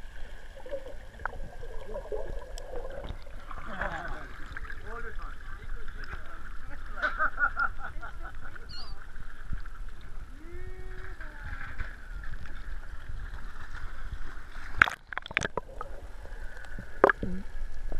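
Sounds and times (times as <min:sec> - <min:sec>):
water splashes: 0:00.0 - 0:17.9.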